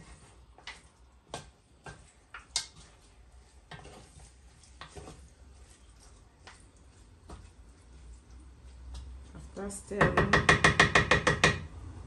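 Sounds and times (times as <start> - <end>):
wooden spoon scraping pot: 0.0 - 11.6.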